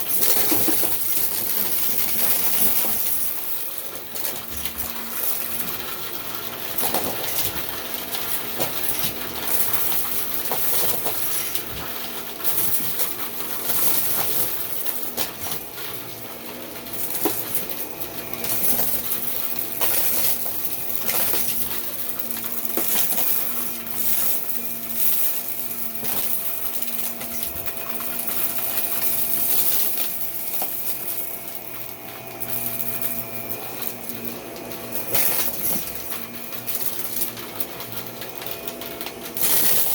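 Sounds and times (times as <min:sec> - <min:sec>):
small hard objects clinking: 0:00.0 - 0:39.9.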